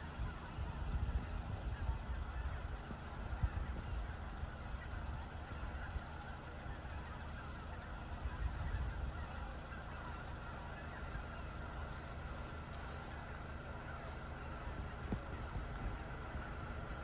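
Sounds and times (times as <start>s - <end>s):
flock of birds calling: 0.0s - 17.0s
steady low rumble: 0.0s - 17.0s.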